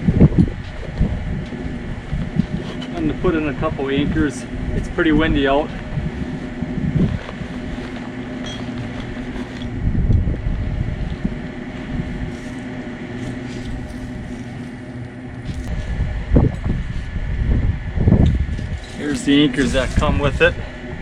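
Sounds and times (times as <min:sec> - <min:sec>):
steady low hum: 0:00.0 - 0:21.0
wind rumbling on microphone: 0:00.0 - 0:21.0.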